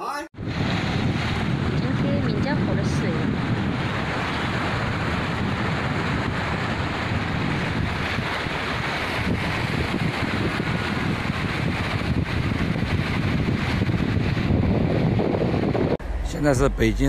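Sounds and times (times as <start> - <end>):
wind buffeting microphone: 0.4 - 17.0.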